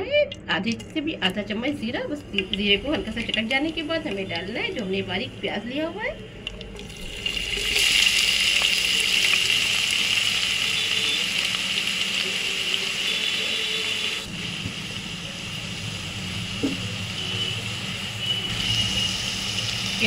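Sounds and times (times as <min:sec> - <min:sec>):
onions sizzling in hot oil: 0:02.3 - 0:20.0.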